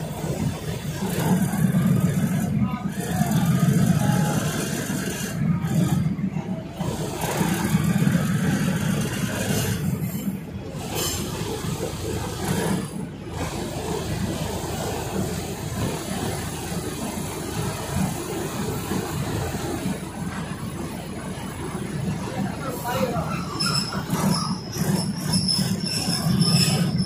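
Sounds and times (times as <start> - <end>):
diesel engine drone: 0.0 - 27.0
train wheels on rails: 0.0 - 27.0.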